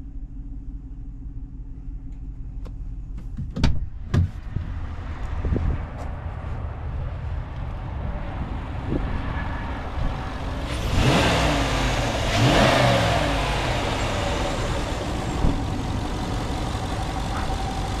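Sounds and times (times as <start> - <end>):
pickup engine idling and revving: 0.0 - 18.0.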